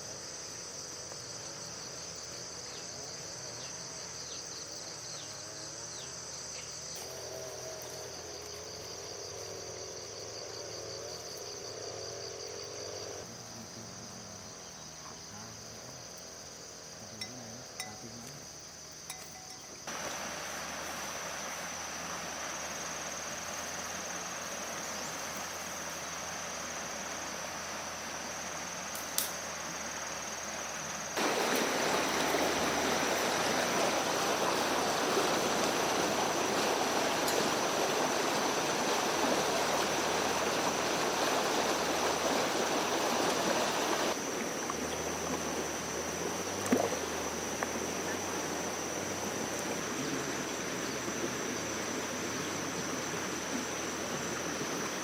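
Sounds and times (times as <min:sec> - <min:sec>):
high-pitched insect drone: 0:00.0 - 0:55.0
stream running water: 0:00.0 - 0:55.0.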